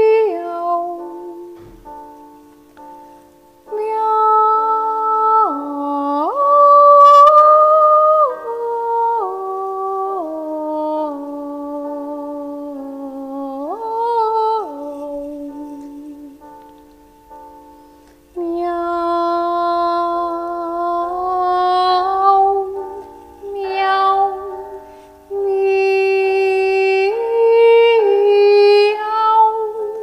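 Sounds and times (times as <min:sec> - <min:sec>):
person singing long notes: 0:03.7 - 0:16.7, 0:18.3 - 0:30.0.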